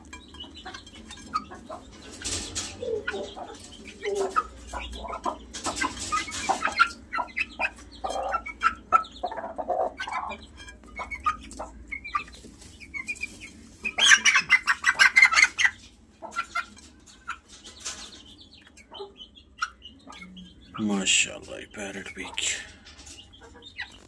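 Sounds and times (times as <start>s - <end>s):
chicks clucking and peeping: 0.0s - 24.0s.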